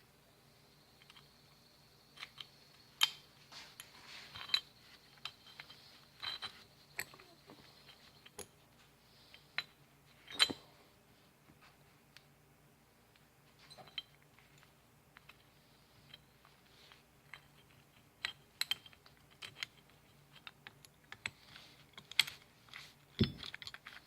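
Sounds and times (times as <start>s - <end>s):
small metal parts clinking: 0.9s - 8.6s, 9.3s - 10.7s, 13.6s - 24.0s.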